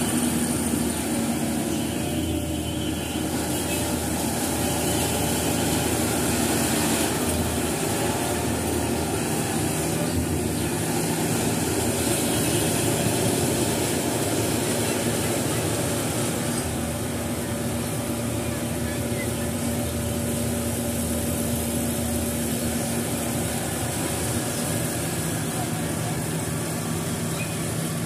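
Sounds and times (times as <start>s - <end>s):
combine harvester engine droning: 0.0s - 28.0s.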